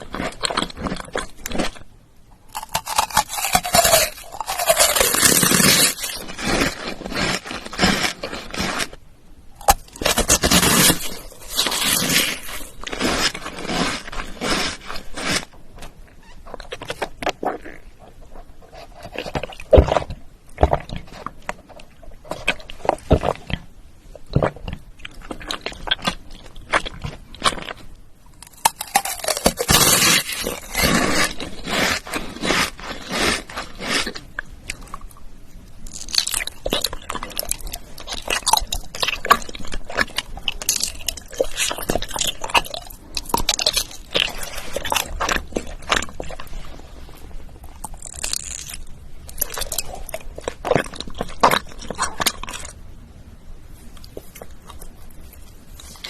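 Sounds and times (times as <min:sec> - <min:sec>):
crunchy bites and chewing: 0:00.0 - 0:52.8, 0:53.8 - 0:56.0.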